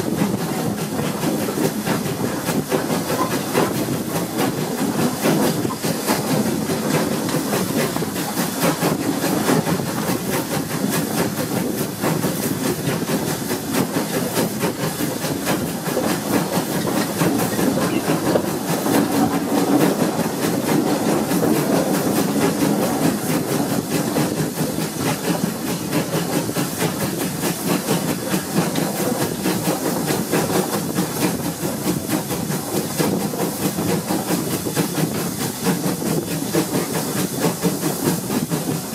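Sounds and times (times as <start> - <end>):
rushing air: 0.0 - 38.9
steam locomotive: 0.0 - 38.9
train wheels on rails: 0.0 - 38.9.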